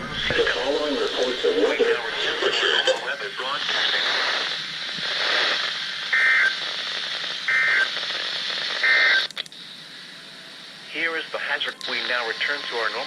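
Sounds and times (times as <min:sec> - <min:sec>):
radio receiver hiss: 0:00.0 - 0:13.0.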